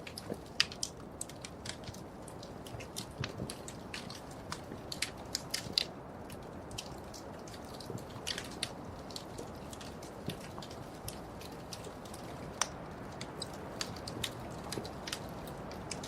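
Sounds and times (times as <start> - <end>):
low rush of flames: 0.0 - 16.0
wood fire crackling and popping: 0.0 - 16.0.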